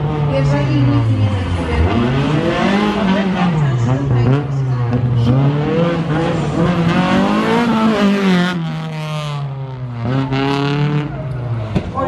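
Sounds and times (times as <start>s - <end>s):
car engine revving past: 1.4s - 11.8s.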